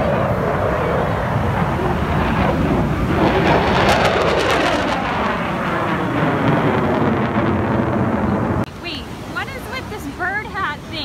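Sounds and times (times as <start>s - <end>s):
aircraft passing low overhead: 0.0s - 9.3s.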